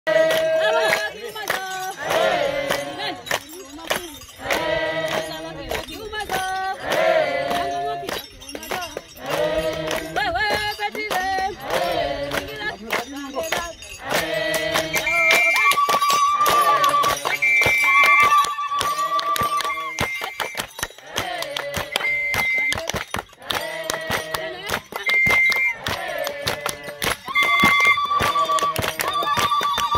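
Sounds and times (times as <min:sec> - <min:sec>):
group singing: 0:00.1 - 0:22.5, 0:23.4 - 0:29.9
sharp handclaps: 0:00.2 - 0:29.9.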